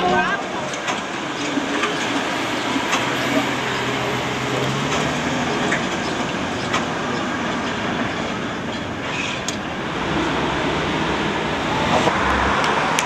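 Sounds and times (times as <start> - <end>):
tram rolling rumble: 0.0 - 13.0.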